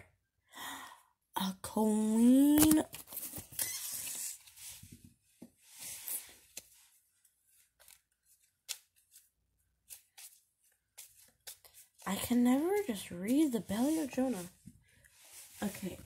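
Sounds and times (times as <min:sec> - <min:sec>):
cards and cloth rustling: 0:02.5 - 0:16.0.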